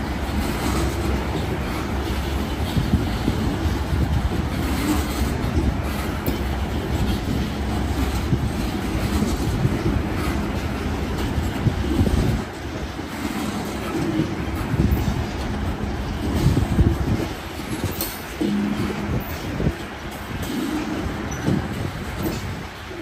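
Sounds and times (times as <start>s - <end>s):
freight train wheels clattering: 0.0s - 23.0s.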